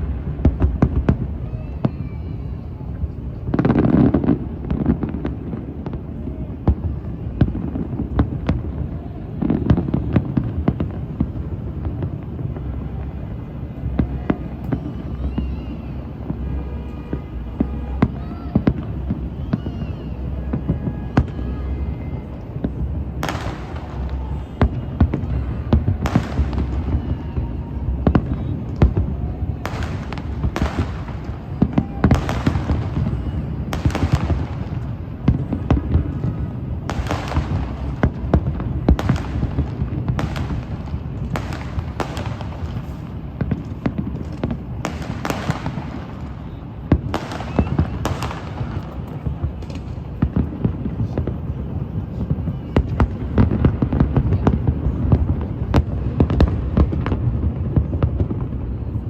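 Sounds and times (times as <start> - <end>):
fireworks cracks and booms: 0.0 - 59.0.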